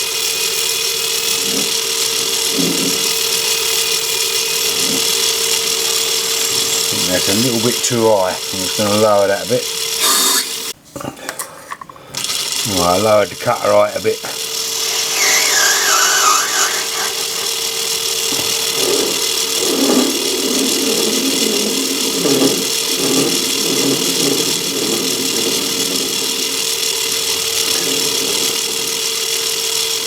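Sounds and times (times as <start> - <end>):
lathe humming and whining: 0.0 - 10.8, 12.2 - 30.0
rough metal cutting noise: 0.0 - 10.8, 12.2 - 30.0.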